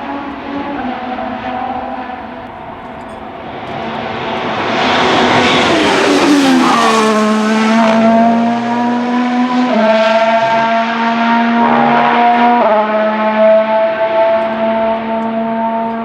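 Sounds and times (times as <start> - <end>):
racing car engine passing: 0.0 - 16.0.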